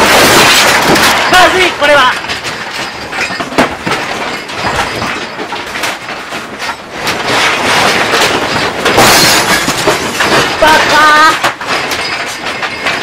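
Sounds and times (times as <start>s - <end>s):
loud crash: 0.0s - 5.4s, 6.9s - 13.0s
objects falling: 0.0s - 13.0s
objects rattling and clattering: 0.0s - 13.0s.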